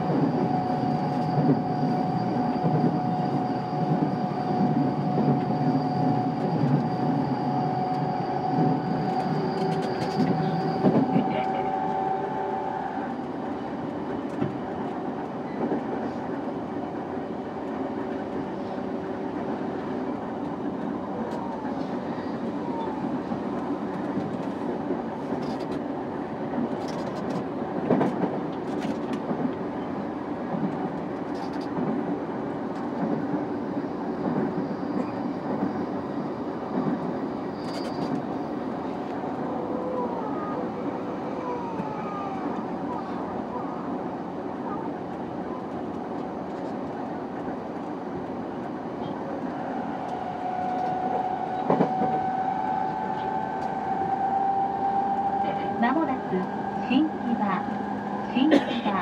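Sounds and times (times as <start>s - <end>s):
rumble of train wheels on rail: 0.0s - 59.0s.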